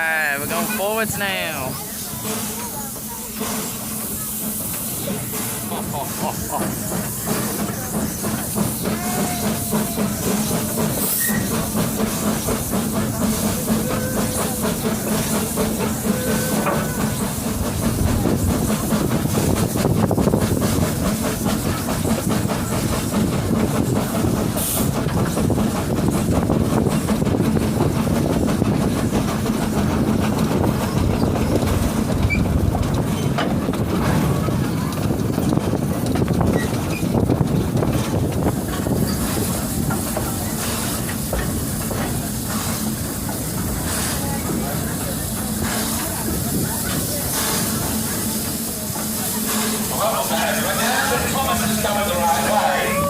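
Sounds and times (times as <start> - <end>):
hissing steam: 0.0 - 53.0
train wheels clickety-clack on rails: 0.0 - 53.0.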